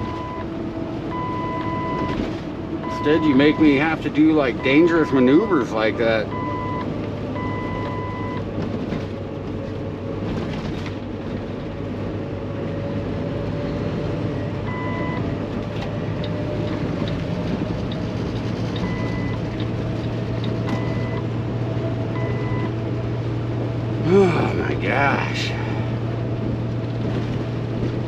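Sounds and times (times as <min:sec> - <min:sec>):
truck diesel engine running: 0:00.0 - 0:28.0.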